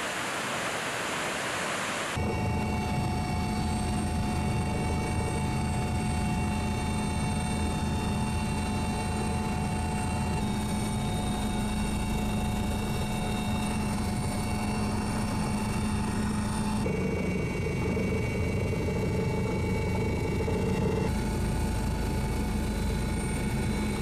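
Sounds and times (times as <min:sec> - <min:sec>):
helicopter engine and rotor: 0:00.8 - 0:24.0.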